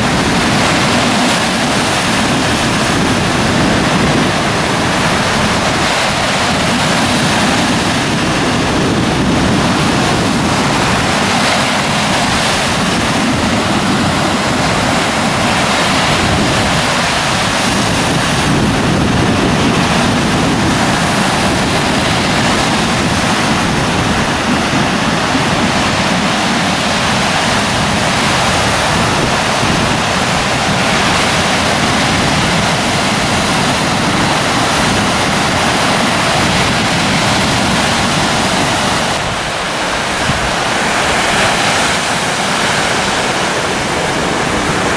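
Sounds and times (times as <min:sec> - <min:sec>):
surf breaking on beach: 0:00.0 - 0:44.9.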